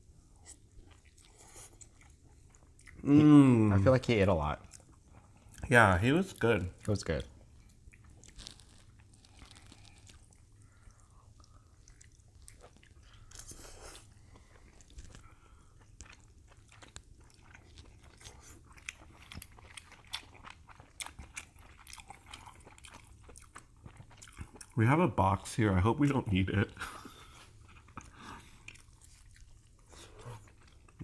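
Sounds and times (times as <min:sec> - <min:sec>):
chewing crab legs with crackles: 0:00.4 - 0:03.1, 0:03.8 - 0:25.1, 0:26.0 - 0:31.0.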